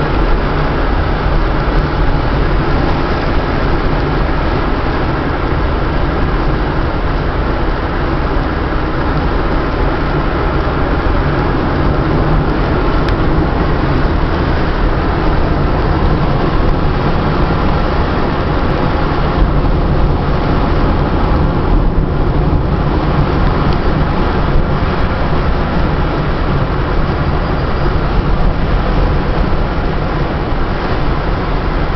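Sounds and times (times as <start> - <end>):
car road and wind noise: 0.0 - 31.9.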